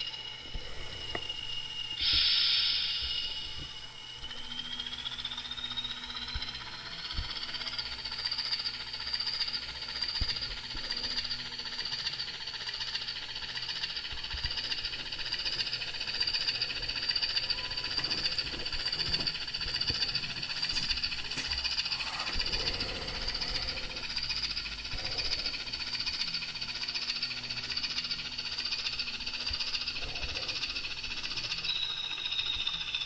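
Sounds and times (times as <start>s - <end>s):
model locomotive high whine: 0.0s - 33.0s.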